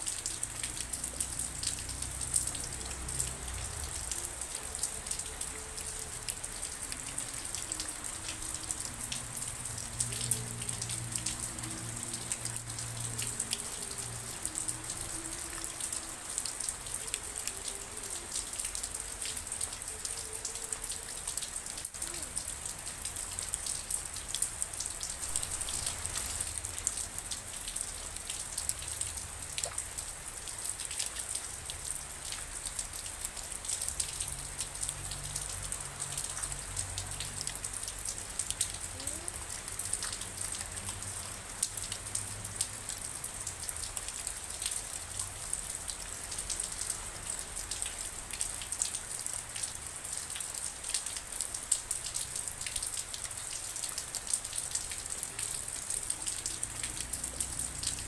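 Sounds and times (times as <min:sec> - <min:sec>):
rain drops pattering: 0:00.0 - 0:58.0.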